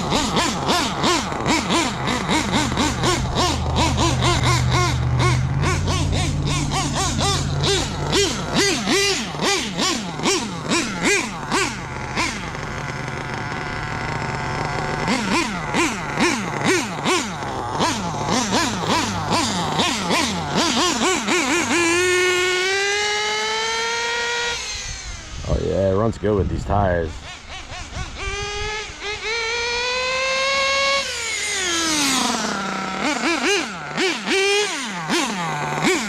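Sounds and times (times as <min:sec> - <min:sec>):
small engine revving: 0:00.0 - 0:36.0.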